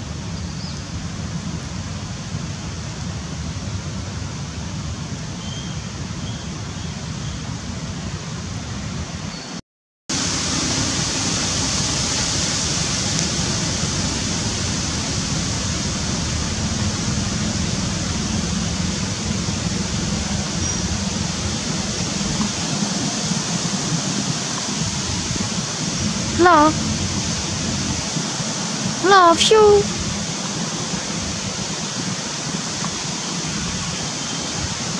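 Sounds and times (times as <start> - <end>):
rushing outdoor background noise: 0.0 - 34.9.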